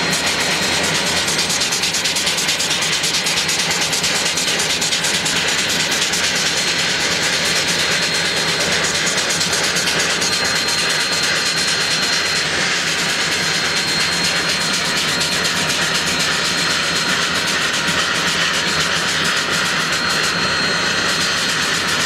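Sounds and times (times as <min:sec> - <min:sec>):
steam locomotive hissing: 0:00.0 - 0:20.2.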